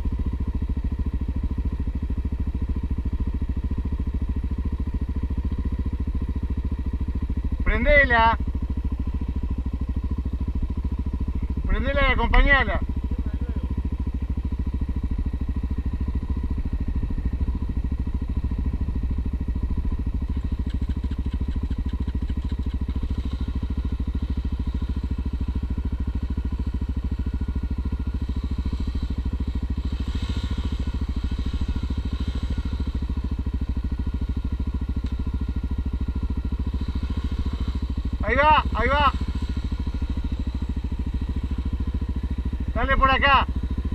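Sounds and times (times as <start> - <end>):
motorcycle engine running steadily: 0.0 - 43.9.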